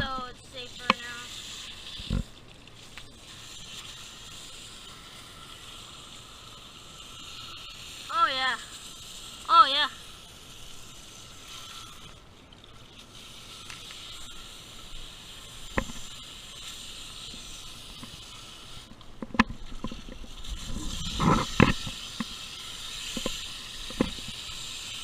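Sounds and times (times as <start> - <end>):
hose spraying water: 0.0 - 25.0.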